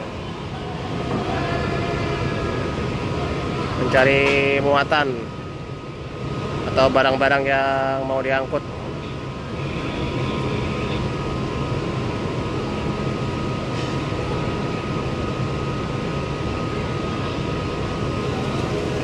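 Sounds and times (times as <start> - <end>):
faint high whine: 0.0 - 19.0
low machinery drone: 0.0 - 19.0.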